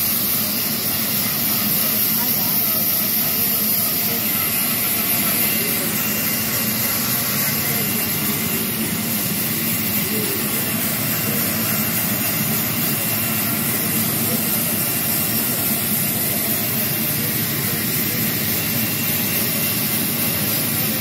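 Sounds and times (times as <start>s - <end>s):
band saw cutting log: 0.0s - 21.0s.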